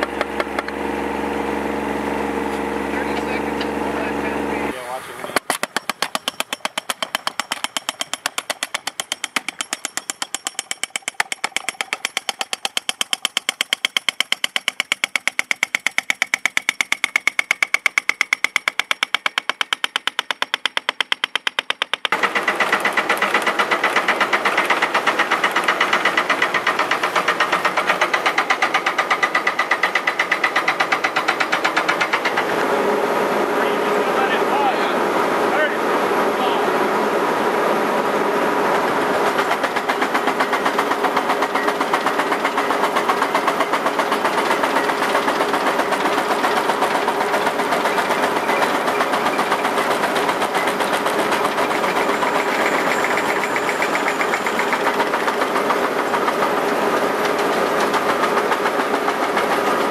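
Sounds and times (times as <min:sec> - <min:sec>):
pneumatic impactor hammering: 0:00.0 - 0:04.7, 0:05.3 - 0:32.8, 0:39.2 - 0:59.9.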